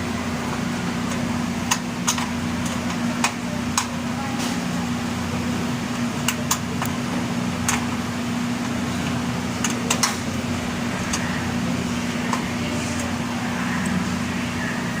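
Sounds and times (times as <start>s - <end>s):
steady fan hum: 0.0s - 15.0s.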